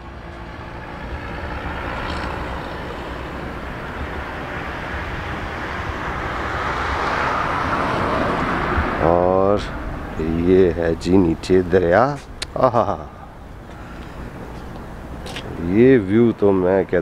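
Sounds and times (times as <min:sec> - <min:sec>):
road vehicle rumble and road noise: 0:00.0 - 0:17.0.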